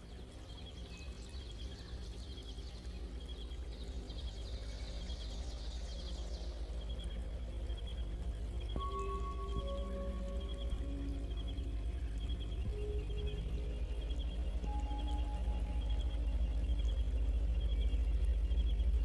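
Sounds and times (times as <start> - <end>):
birds twittering: 0.0 - 19.0
low rumble: 0.1 - 19.0.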